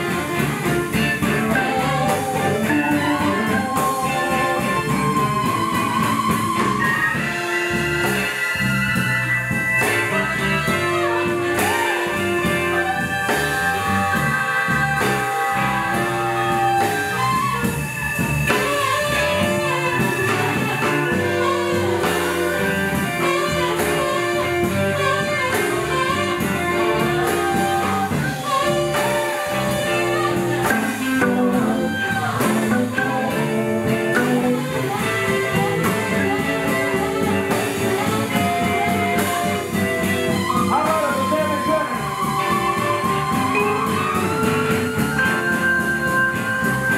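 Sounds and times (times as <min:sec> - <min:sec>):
blues band playing: 0:00.0 - 0:46.9.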